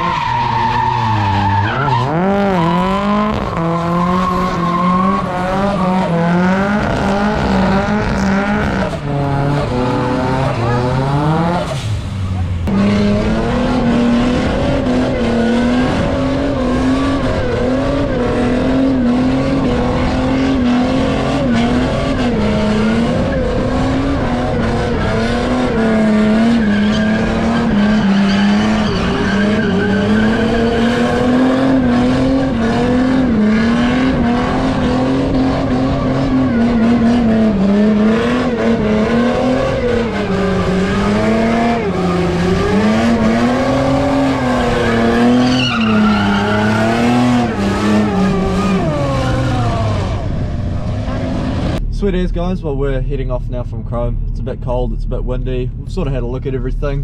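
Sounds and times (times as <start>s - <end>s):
car engine revving high: 0.0s - 52.4s.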